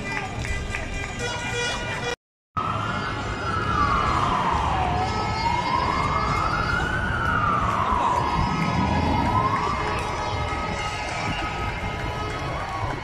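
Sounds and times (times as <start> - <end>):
street traffic noise: 0.0 - 13.0
emergency vehicle siren wailing: 2.6 - 13.0.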